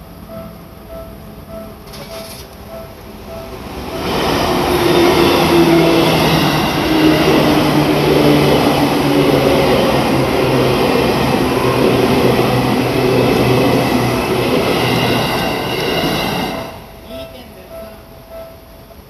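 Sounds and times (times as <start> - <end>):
train wheels rolling: 0.0 - 18.0
low train hum: 0.0 - 19.0.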